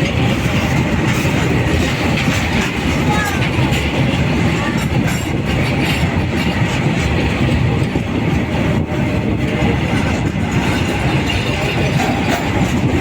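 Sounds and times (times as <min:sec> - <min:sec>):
freight train wheels clattering on rails: 0:00.0 - 0:13.0.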